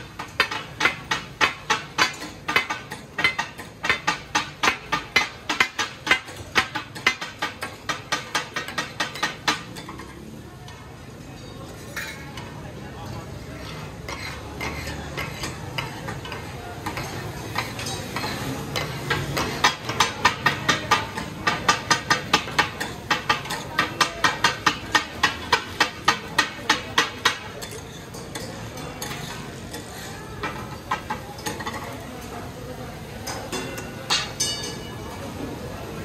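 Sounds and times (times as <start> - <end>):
blades clacking on iron griddle: 0.0 - 12.6, 13.2 - 34.9.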